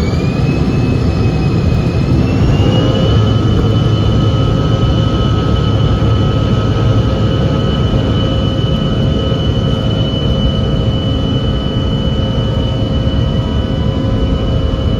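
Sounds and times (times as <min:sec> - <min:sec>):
jet engines whine: 0:00.0 - 0:14.9
loud steady rumble: 0:00.0 - 0:14.9.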